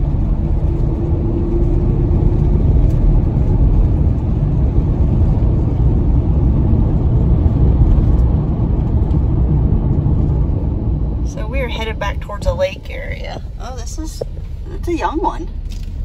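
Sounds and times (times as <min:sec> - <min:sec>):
van road rumble: 0:00.0 - 0:16.0.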